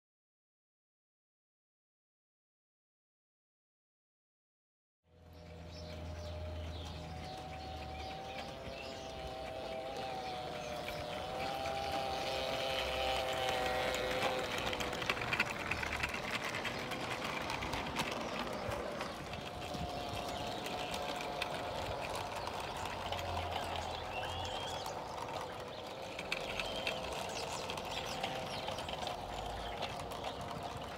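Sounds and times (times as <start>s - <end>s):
train wheels clicking over rail joints: 5.2s - 30.9s
steady humming tone: 5.3s - 30.9s.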